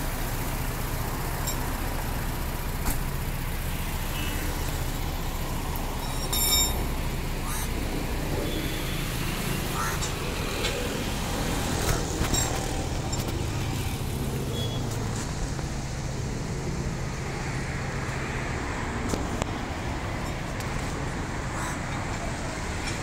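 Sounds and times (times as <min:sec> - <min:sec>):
road traffic noise: 0:00.0 - 0:23.0
vehicle engine running: 0:00.0 - 0:23.0.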